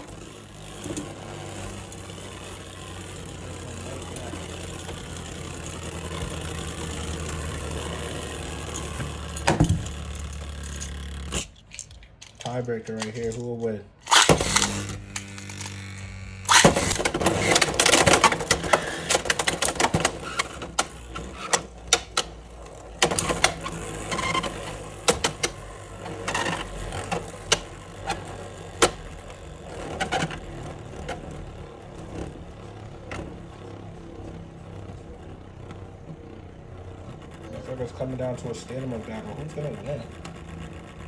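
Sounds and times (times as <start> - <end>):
spinning tops whirring: 0.0 - 41.0.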